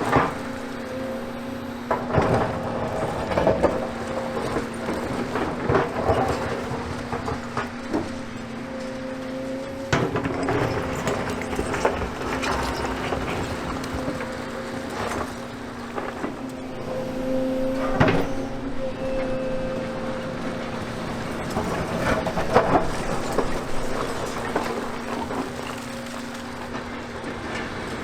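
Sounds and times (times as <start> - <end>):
rubble clanking and thudding: 0.0 - 8.3, 9.9 - 16.9, 20.8 - 28.0
excavator diesel engine running: 0.0 - 28.0.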